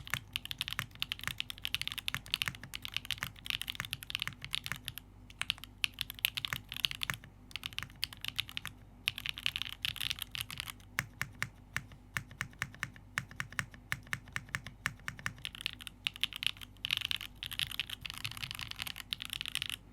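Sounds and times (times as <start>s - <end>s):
mechanical keyboard keys clacking: 0.0s - 19.8s.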